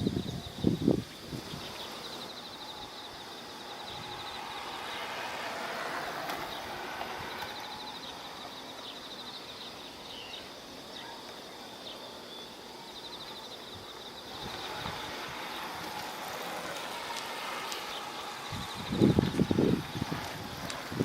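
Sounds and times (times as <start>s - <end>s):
steady rushing noise: 0.0s - 10.1s, 12.7s - 21.0s
insects trilling: 0.0s - 21.0s.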